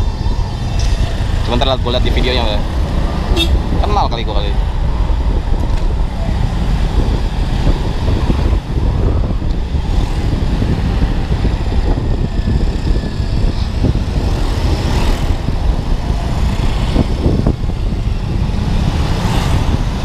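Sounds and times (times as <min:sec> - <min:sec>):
surrounding traffic: 0:00.0 - 0:20.0
wind rumble on microphone: 0:00.0 - 0:20.0.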